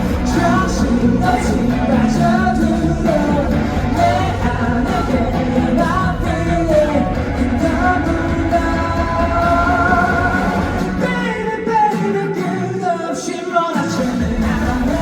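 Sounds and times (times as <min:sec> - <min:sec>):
rock band playing: 0:00.0 - 0:12.7, 0:13.9 - 0:15.0
man singing lead vocal: 0:00.0 - 0:15.0.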